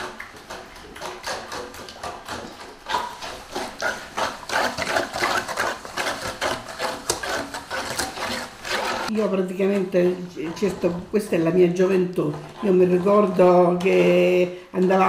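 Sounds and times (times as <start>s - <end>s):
fork beating eggs in metal basin: 0.0s - 15.0s.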